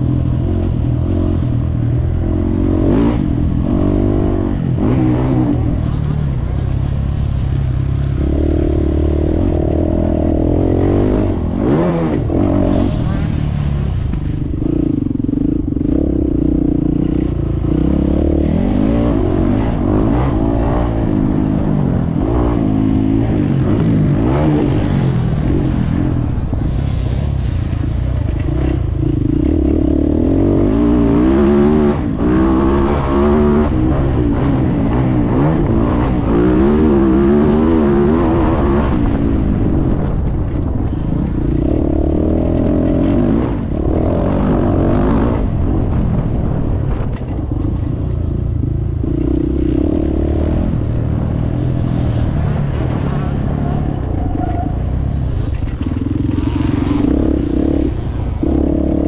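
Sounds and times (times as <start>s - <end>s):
motocross bike engine revving: 7.9s - 47.8s, 49.0s - 59.0s.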